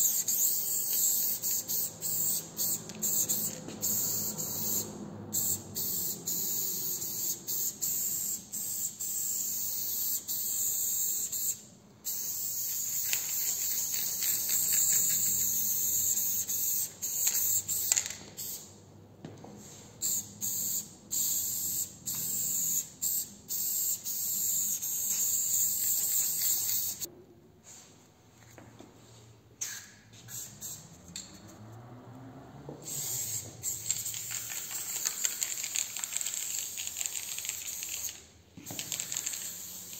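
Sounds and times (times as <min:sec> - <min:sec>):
spray paint can hissing: 0:00.0 - 0:18.7, 0:20.0 - 0:27.1, 0:29.6 - 0:30.9, 0:32.8 - 0:39.9.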